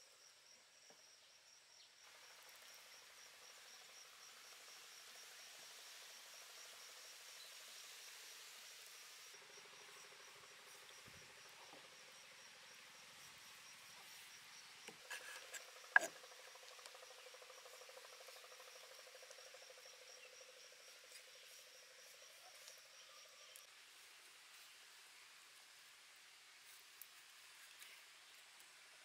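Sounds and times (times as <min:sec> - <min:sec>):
insects trilling: 0:00.2 - 0:23.7.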